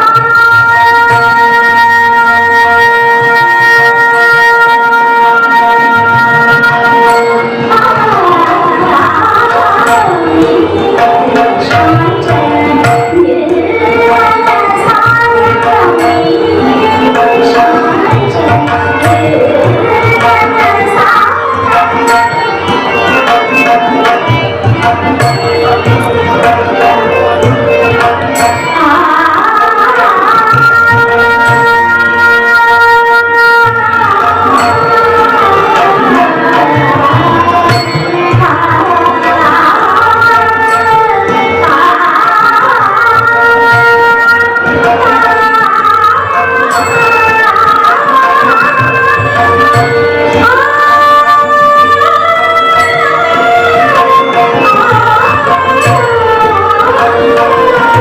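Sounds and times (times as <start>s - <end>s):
held instrument notes: 0.0s - 58.0s
tabla rhythm: 0.0s - 58.0s.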